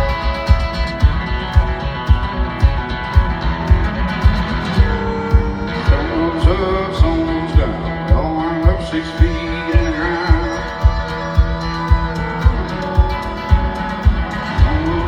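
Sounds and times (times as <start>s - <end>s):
country band playing: 0.0s - 15.0s
kick drum beating: 0.0s - 15.0s.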